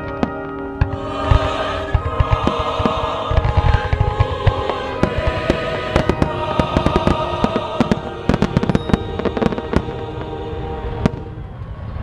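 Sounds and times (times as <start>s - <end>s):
fireworks bursting: 0.0s - 12.0s
music: 0.0s - 12.0s.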